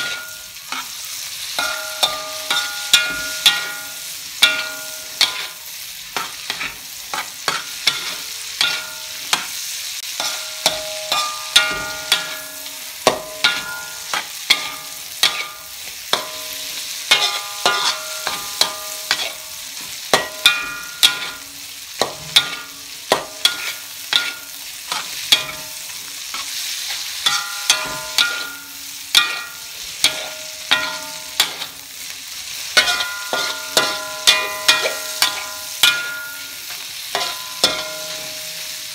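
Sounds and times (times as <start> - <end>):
meat and vegetables sizzling: 0.0 - 38.9
metal spatula striking a wok: 0.0 - 38.9.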